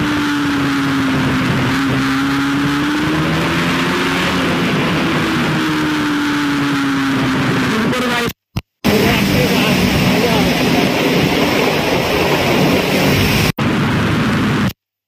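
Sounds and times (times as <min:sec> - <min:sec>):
motorcycle engine cruising: 0:00.0 - 0:14.6
road noise: 0:00.0 - 0:14.8
wind noise: 0:00.0 - 0:14.8.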